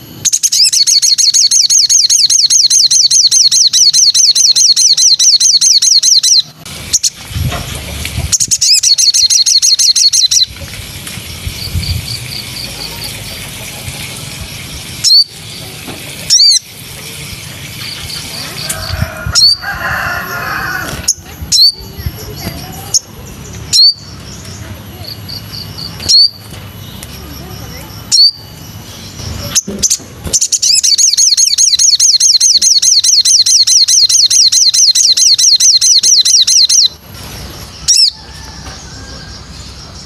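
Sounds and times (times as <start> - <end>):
songbird trilling and warbling: 0.0 - 40.0.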